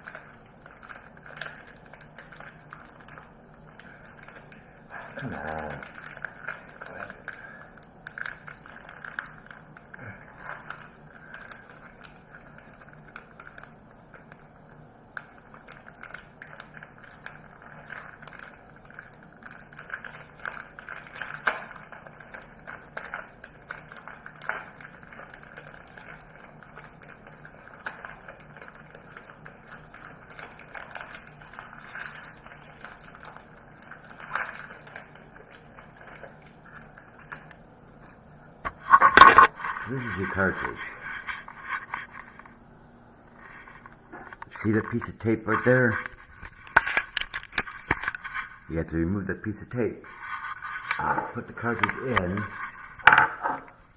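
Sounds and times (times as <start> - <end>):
plastic packaging crackling: 0.0 - 42.6, 43.2 - 48.8, 50.0 - 53.9.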